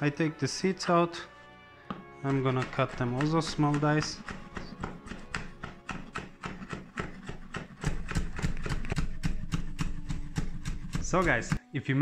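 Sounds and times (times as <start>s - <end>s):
cleaver chopping on wooden board: 1.9s - 11.6s.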